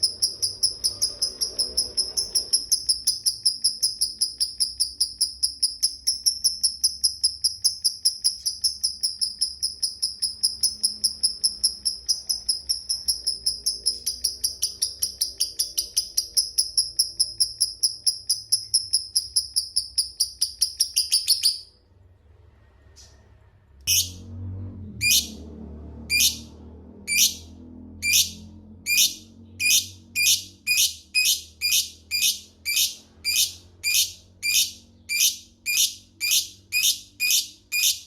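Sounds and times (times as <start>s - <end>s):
lovebird chattering trill: 0.0s - 21.7s, 28.0s - 38.0s.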